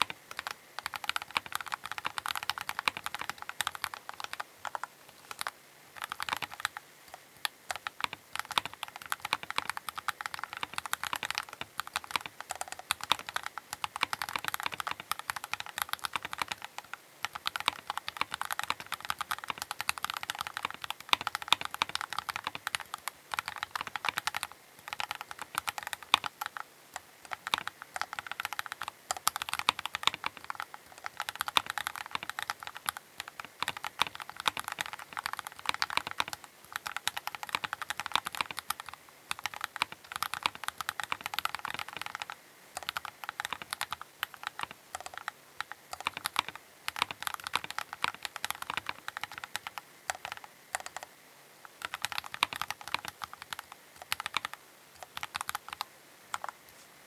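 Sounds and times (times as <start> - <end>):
mechanical keyboard typing: 0.0 - 51.1, 51.7 - 56.6.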